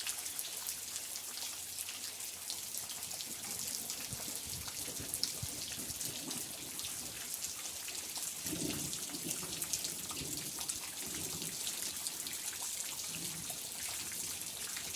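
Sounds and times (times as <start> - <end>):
light rain falling: 0.0 - 14.9.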